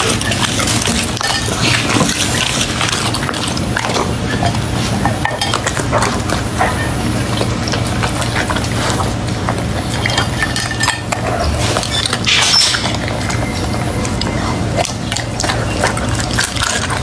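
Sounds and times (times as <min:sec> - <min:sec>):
dog chewing and licking: 0:00.0 - 0:17.0.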